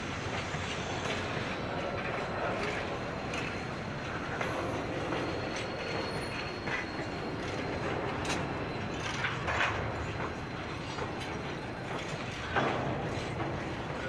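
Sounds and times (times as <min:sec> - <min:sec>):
diesel locomotive engines running: 0:00.0 - 0:14.0.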